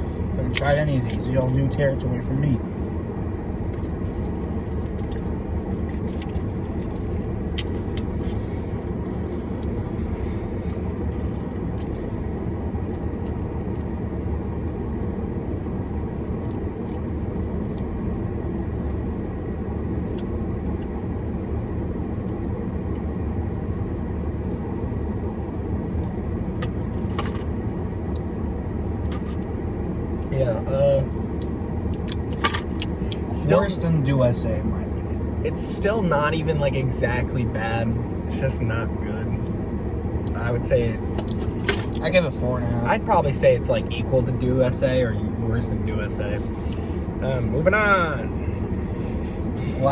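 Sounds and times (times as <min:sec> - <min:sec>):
low vehicle rumble: 0:00.0 - 0:49.9.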